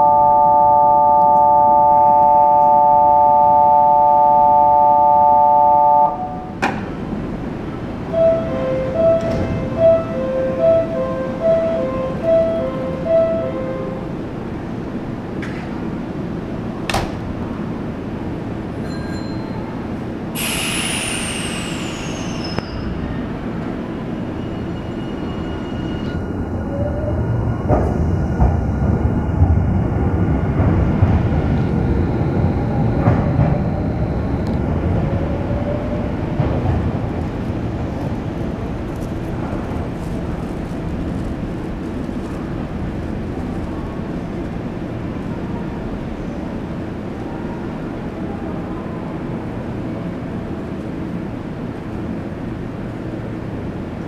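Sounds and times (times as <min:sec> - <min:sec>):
train rumble with wheel knocks: 0:06.3 - 0:54.0.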